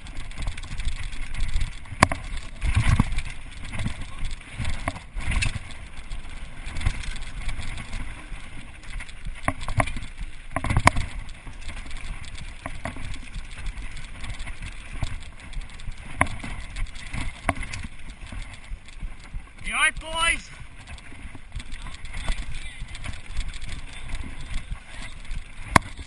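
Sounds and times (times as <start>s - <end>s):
bike rattling and knocking: 0.0s - 26.0s
tyres rushing over gravel trail: 0.0s - 26.0s.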